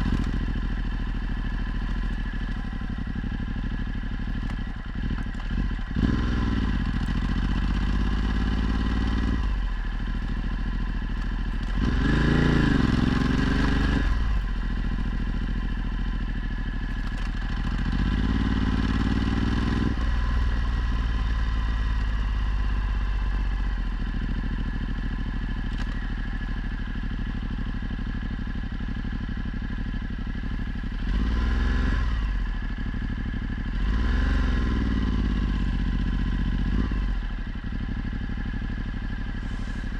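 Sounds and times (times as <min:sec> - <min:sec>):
motorcycle engine revving: 0:00.0 - 0:27.2, 0:30.1 - 0:39.9.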